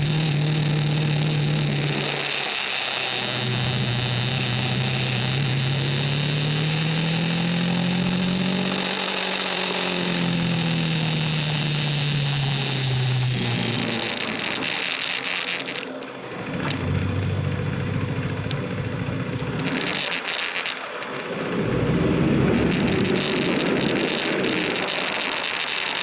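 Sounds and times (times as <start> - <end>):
motorcycle engine running: 0.0 - 26.0
wind and tyre noise: 0.0 - 26.0.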